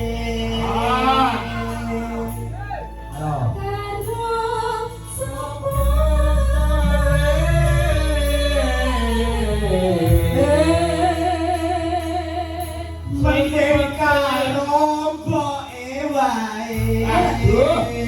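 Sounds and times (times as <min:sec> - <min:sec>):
deep bass: 0:00.0 - 0:18.0.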